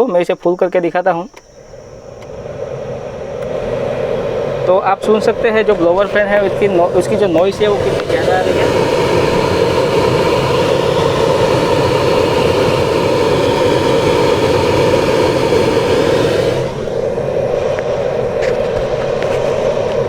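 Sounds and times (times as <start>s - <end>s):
car blower fan rushing air: 0.2s - 20.0s.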